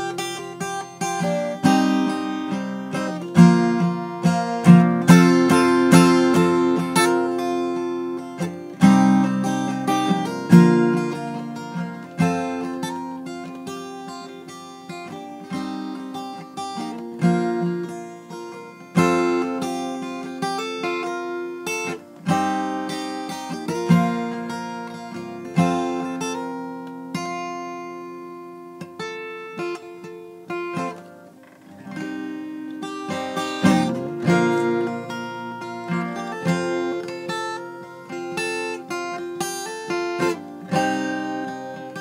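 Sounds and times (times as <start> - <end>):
acoustic guitar chords: 0.0 - 42.0.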